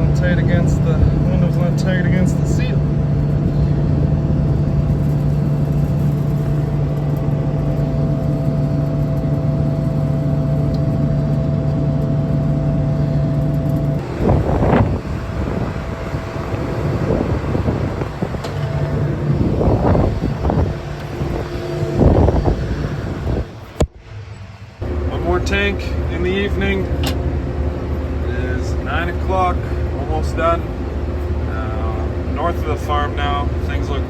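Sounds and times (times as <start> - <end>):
farm machinery engine humming: 0.0 - 34.0
irregular rumbling: 0.0 - 34.0.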